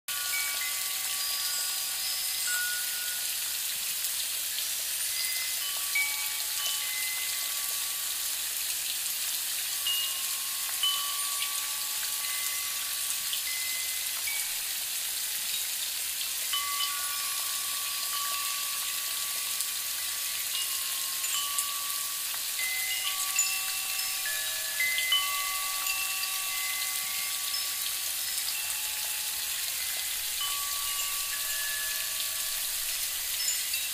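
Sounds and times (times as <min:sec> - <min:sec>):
steady hiss: 0:00.1 - 0:33.9
wind chimes ringing: 0:00.1 - 0:33.9.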